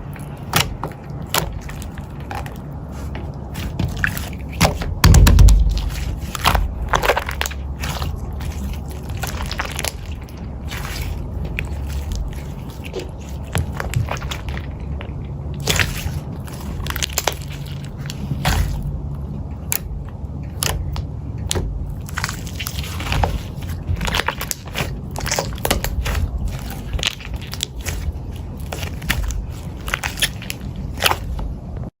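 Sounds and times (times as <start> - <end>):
eating crunches and clicks: 0.0 - 31.9
low steady rumble: 0.0 - 32.0.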